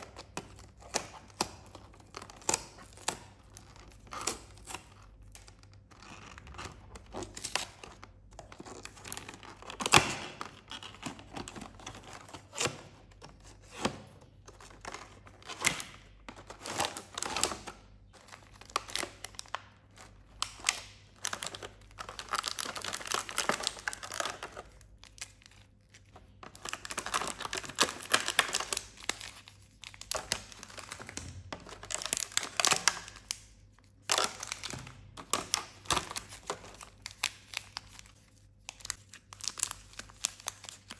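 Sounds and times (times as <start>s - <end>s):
plastic and wrappers crinkling: 0.0s - 40.9s.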